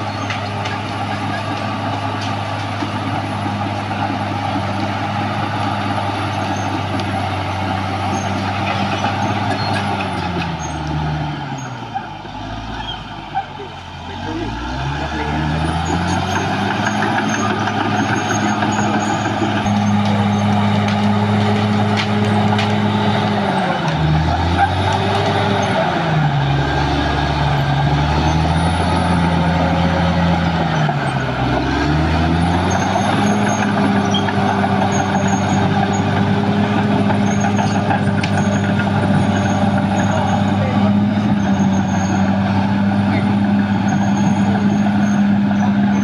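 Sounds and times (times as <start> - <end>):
bulldozer diesel engine running hard: 0.0 - 46.0.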